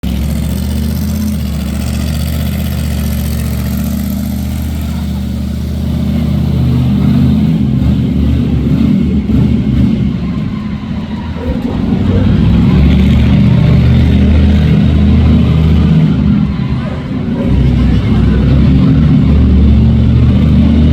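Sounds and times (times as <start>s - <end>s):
truck engine revving: 0.0s - 20.9s.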